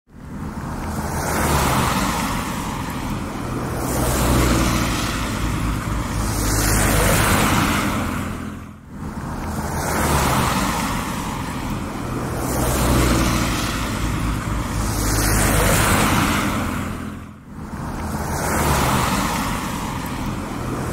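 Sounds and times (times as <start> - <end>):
cars passing on wet street: 0.1 - 20.9
rain: 0.2 - 8.2, 9.0 - 16.8, 17.6 - 20.9.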